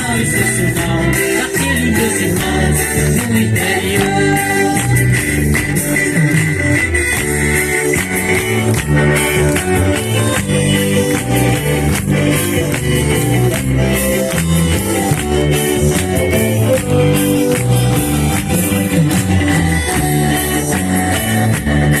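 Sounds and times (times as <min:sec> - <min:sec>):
live band playing praise song: 0:00.0 - 0:22.0.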